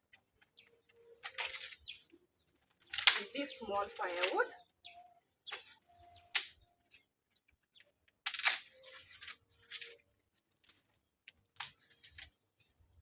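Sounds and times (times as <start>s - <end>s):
firewood sticks being handled: 0.0s - 12.8s
wood crackling and snapping: 0.0s - 13.0s.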